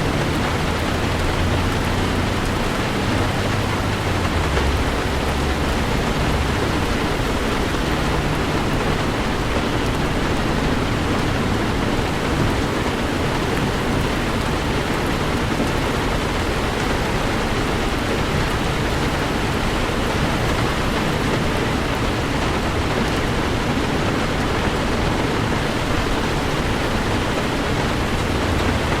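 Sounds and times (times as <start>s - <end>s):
heavy rain on a vehicle: 0.0s - 29.0s
low road rumble: 0.0s - 29.0s.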